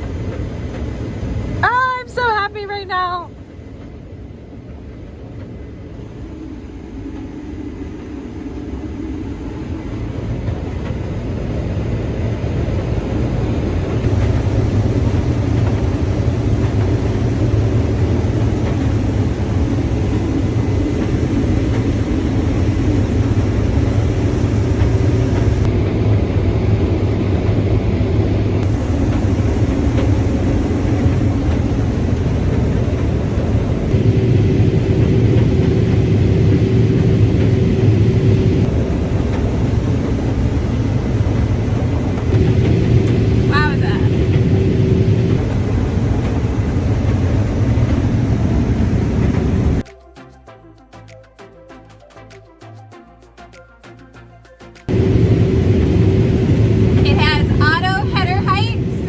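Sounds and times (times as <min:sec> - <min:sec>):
combine harvester drone: 0:00.0 - 0:49.9, 0:54.9 - 0:59.0.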